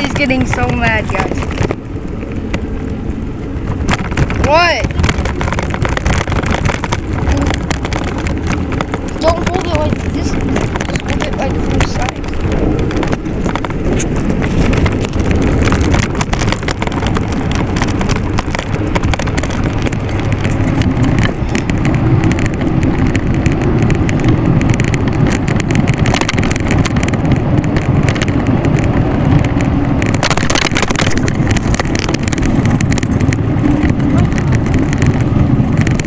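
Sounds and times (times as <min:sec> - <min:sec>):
bike riding noise: 0:00.0 - 0:36.0
small knocks and rattles: 0:00.0 - 0:36.0
wind on microphone: 0:00.0 - 0:36.0.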